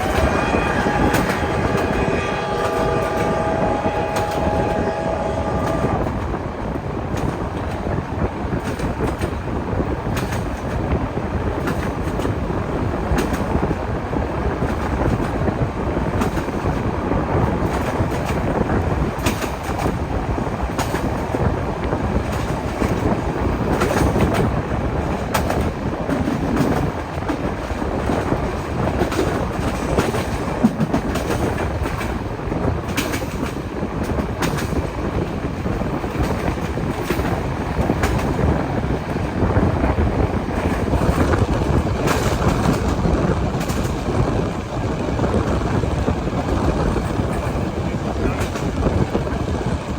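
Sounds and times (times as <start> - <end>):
steam train rumbling along track: 0.0 - 49.9.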